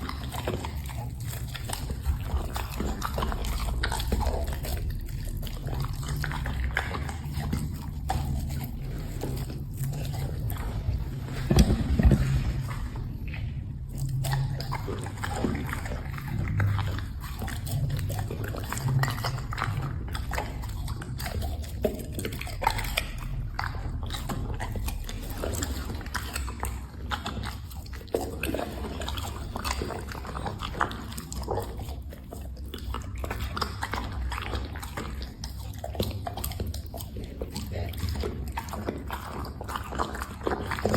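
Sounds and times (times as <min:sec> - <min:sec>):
dog chewing and crunching: 0:00.0 - 0:40.9.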